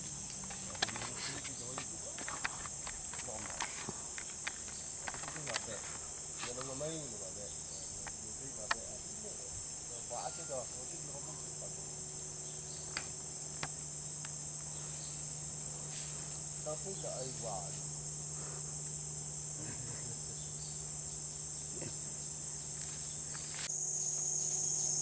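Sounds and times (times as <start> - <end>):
insect chorus droning: 0.0 - 25.0.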